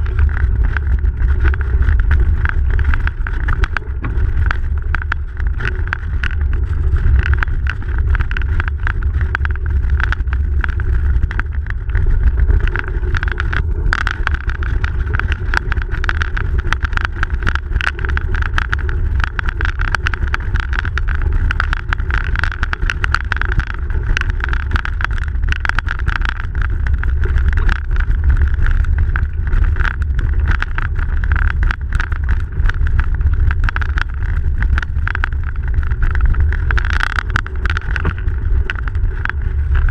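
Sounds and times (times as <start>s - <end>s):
bicycle tyres on snow: 0.0s - 39.9s
small clicks and rattles: 0.0s - 39.9s
wind on microphone: 0.0s - 39.9s.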